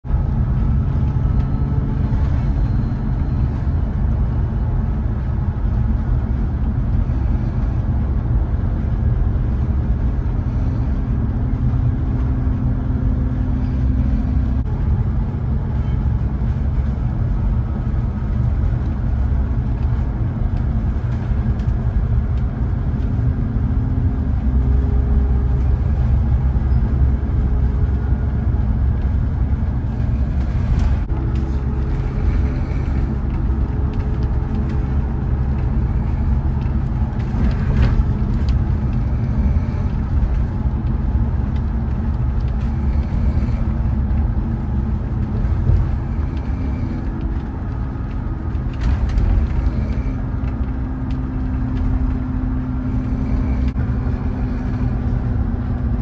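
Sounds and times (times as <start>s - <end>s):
low rumble of moving bus: 0.0s - 56.0s.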